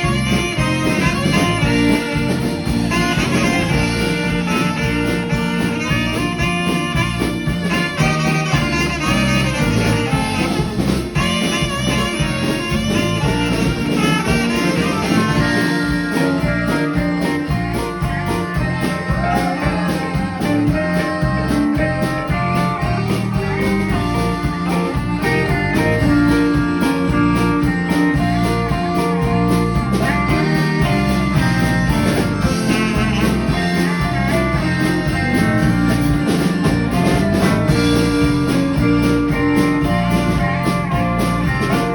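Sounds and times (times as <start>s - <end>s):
band music with horns and guitar: 0.0s - 41.9s.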